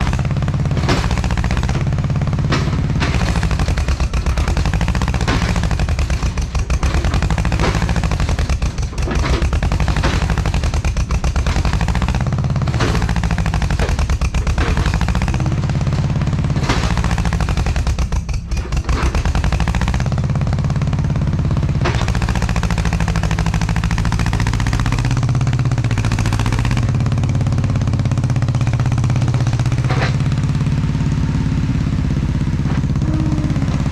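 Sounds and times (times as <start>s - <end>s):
machine knocks and clatter: 0.0s - 31.6s
excavator diesel engine running: 0.0s - 33.9s.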